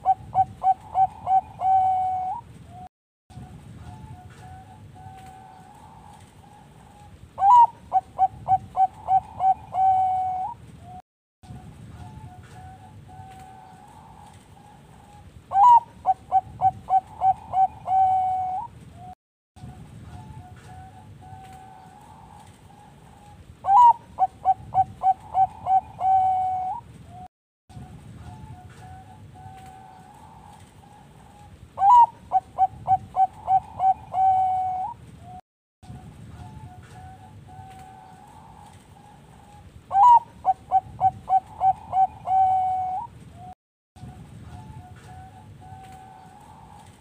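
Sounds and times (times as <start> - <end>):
distant doves cooing: 0.0 - 2.9, 3.8 - 11.0, 12.0 - 19.1, 20.1 - 27.3, 28.2 - 43.5, 44.5 - 47.0
dove cooing song: 0.0 - 47.0.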